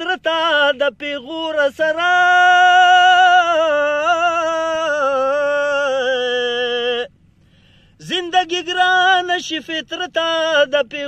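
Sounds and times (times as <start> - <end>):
man singing unaccompanied: 0.0 - 7.2, 8.0 - 11.0.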